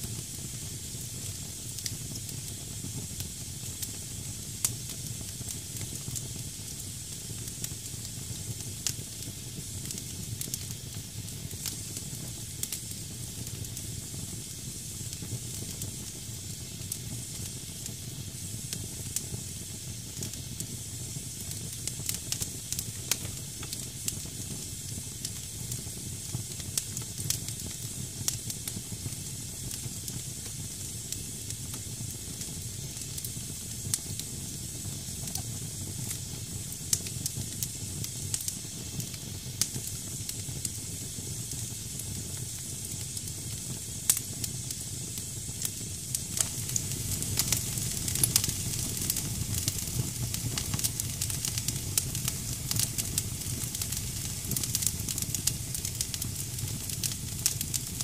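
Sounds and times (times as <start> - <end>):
fire crackling and popping: 0.0 - 58.0
low rumble of flame: 0.0 - 58.0
steam hissing from wood: 0.0 - 58.0.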